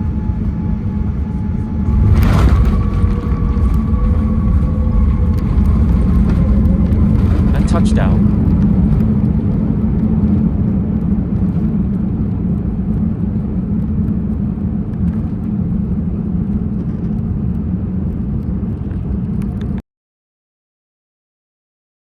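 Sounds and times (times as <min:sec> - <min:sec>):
airplane cabin rumble: 0:00.0 - 0:19.8.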